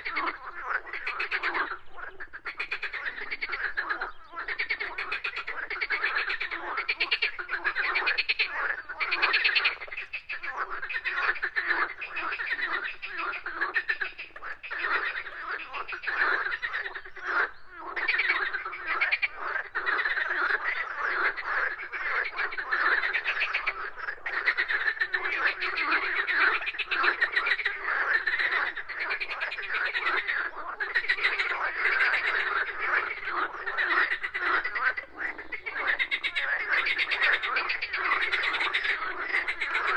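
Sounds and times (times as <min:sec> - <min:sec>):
frogs croaking chorus: 0:00.0 - 0:39.9.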